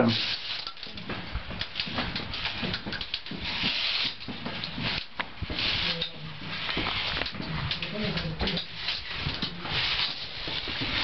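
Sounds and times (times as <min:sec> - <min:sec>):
footsteps on stairs: 0:00.9 - 0:11.0.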